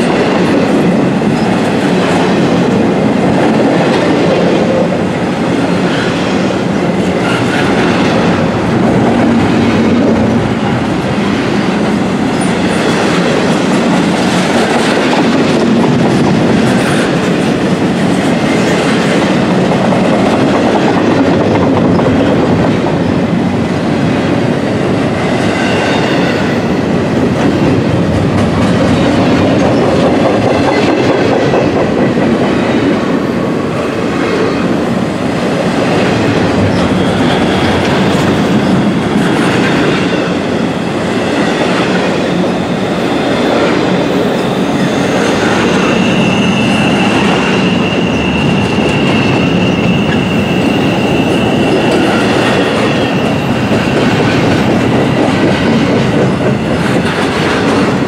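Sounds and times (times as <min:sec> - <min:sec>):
freight train rolling on rails: 0:00.0 - 0:58.0.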